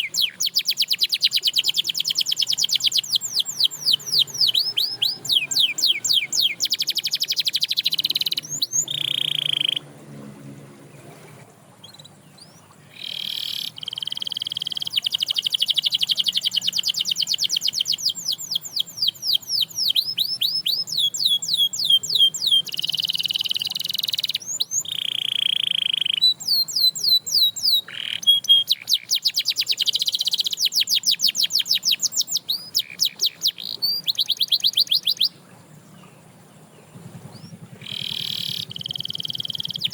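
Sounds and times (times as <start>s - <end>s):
canary singing: 0.0s - 10.0s, 10.9s - 35.4s, 36.0s - 39.9s.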